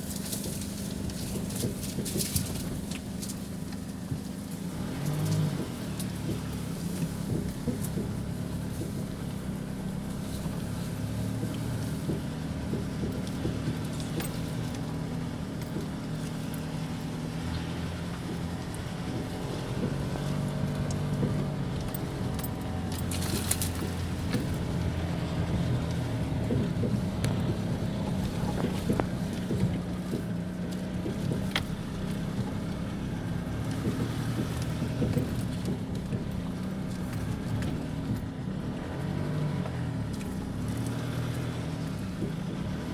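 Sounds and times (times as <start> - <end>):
diesel engine under load: 0.0 - 42.9
knocks and rattles: 5.0 - 42.9.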